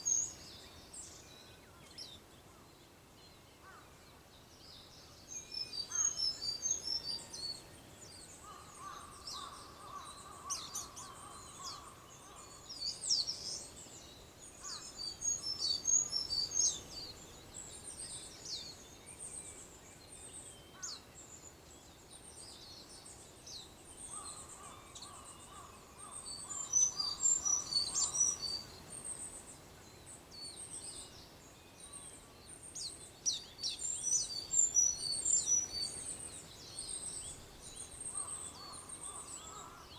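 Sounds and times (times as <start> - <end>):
songbirds twittering and chirping: 0.0 - 39.9.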